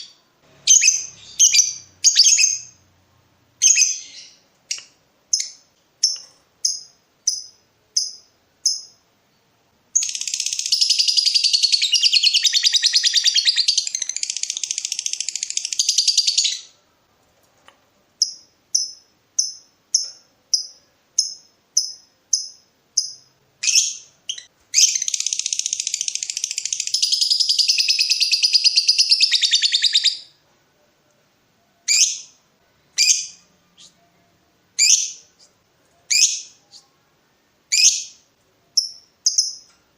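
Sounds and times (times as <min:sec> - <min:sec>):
lovebird chirping and chattering: 0:00.0 - 0:02.8, 0:03.6 - 0:09.0, 0:10.0 - 0:16.8, 0:18.2 - 0:30.4, 0:31.9 - 0:34.2, 0:34.8 - 0:35.5, 0:36.1 - 0:37.0, 0:37.7 - 0:39.7.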